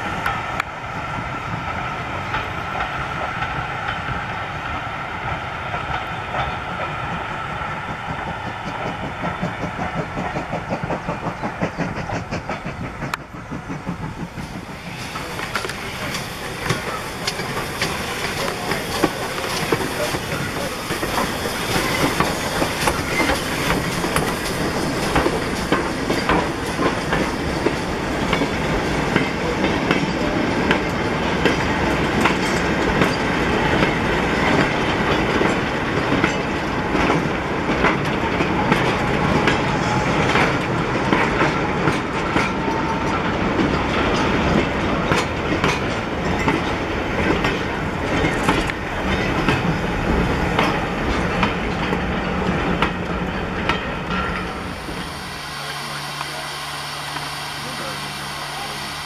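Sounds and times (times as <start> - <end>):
train wheels clattering over rails: 0.0 - 59.0.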